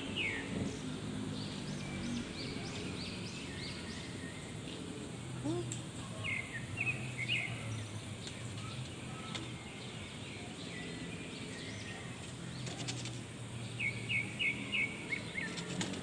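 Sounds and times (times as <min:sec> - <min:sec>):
low outdoor hum: 0:00.0 - 0:16.0.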